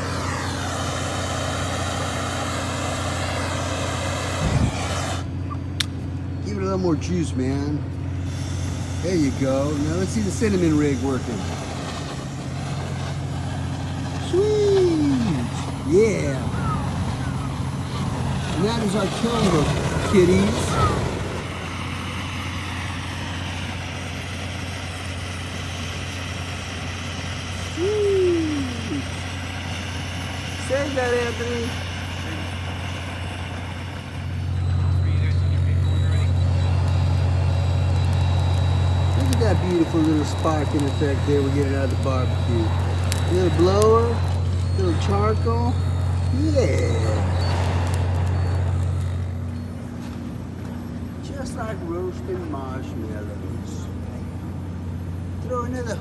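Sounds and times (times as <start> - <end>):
gas burner hissing: 0.0 - 56.0
low hum: 0.0 - 56.0.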